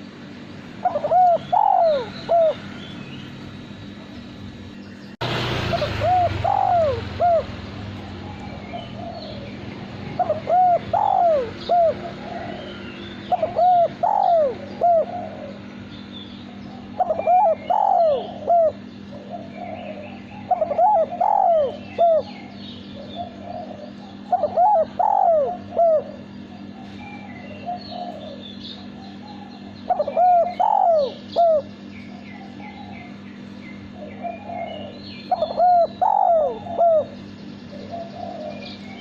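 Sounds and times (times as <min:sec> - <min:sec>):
dove cooing: 0:00.0 - 0:02.8, 0:05.6 - 0:33.2, 0:33.8 - 0:39.0
steady low hum: 0:00.0 - 0:39.0.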